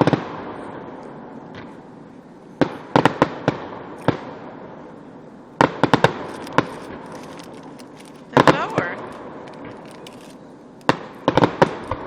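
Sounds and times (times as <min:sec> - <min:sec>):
fireworks sharp bangs: 0:00.0 - 0:02.0, 0:02.6 - 0:05.0, 0:05.6 - 0:12.0
fireworks rumble: 0:00.0 - 0:12.0.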